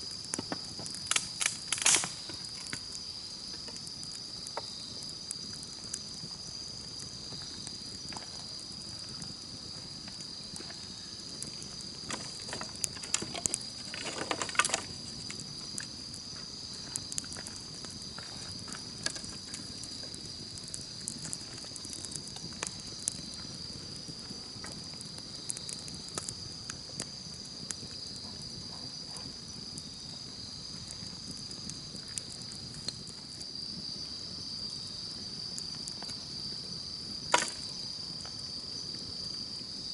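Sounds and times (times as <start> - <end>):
campfire crackling and popping: 0.0 - 39.9
insects chirring: 0.0 - 39.9.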